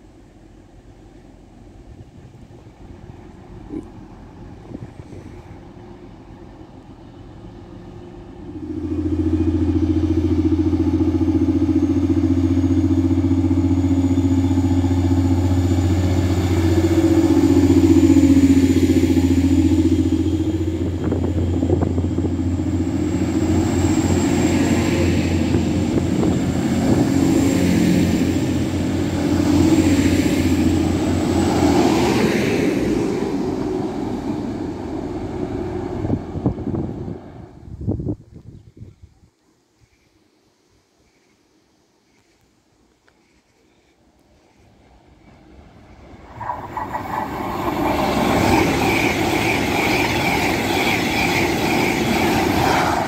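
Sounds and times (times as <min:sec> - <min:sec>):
train diesel engines droning: 0:00.0 - 0:38.0, 0:41.0 - 0:53.0.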